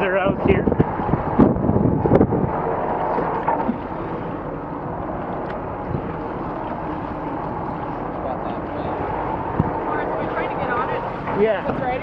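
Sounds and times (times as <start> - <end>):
water sloshing against a hull: 0.0 - 12.0
wind noise on microphone: 0.0 - 12.0.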